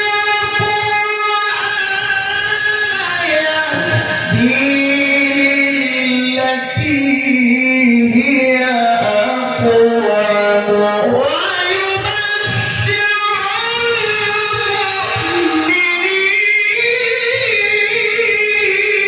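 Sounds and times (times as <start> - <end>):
man chanting melodic recitation: 0.0 - 19.0.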